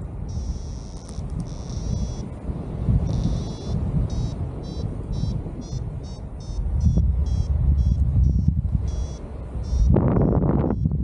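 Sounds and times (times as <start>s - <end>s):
variometer beeping: 0.0s - 2.4s, 3.0s - 11.0s
wind rushing over microphone: 0.0s - 11.0s.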